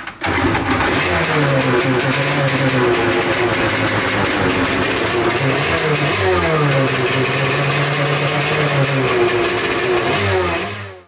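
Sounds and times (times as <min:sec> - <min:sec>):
jet ski engine revving: 0:00.2 - 0:11.0.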